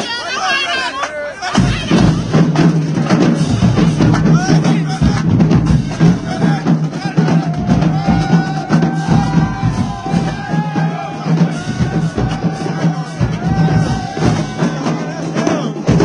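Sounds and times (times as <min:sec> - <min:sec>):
snare drums: 0:01.0 - 0:16.0
bass drums: 0:01.5 - 0:16.0
cymbals: 0:01.6 - 0:16.0.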